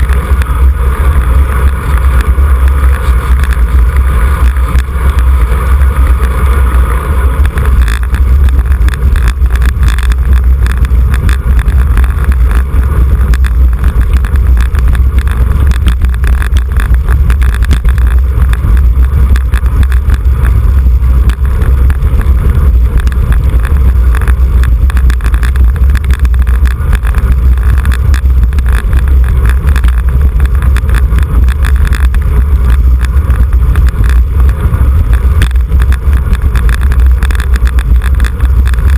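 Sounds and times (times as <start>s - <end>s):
wind buffeting a microphone: 0.0s - 38.9s.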